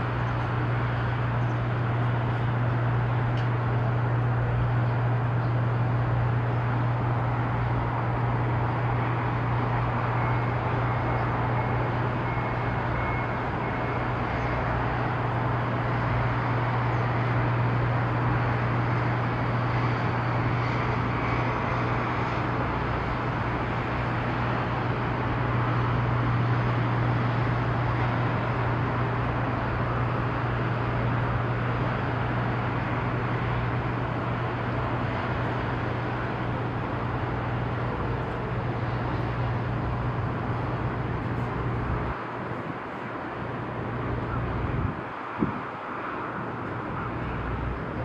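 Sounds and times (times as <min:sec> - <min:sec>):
broad rushing noise: 0:00.0 - 0:48.0
ship engines droning: 0:00.0 - 0:48.0.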